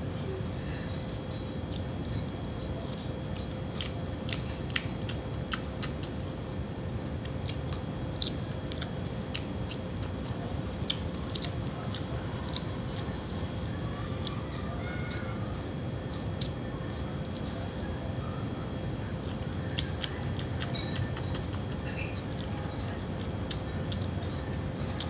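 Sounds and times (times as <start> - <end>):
steady low hum: 0.0 - 25.0
person chewing food: 0.9 - 6.4, 7.2 - 13.3, 14.2 - 25.0.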